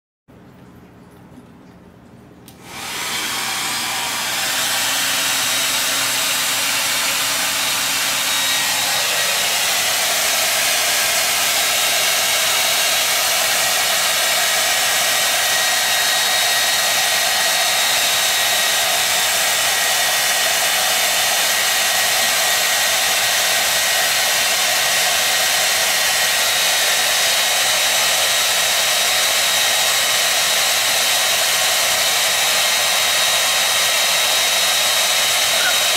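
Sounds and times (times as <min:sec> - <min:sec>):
hair dryer air rushing: 0:02.5 - 0:35.9
hair dryer motor hum: 0:02.5 - 0:35.9.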